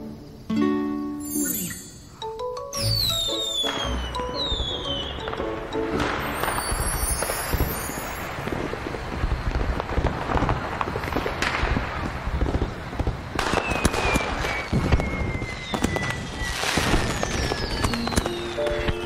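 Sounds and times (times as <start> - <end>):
firework whistling: 1.2 - 19.0
fireworks bangs and crackles: 2.8 - 19.0.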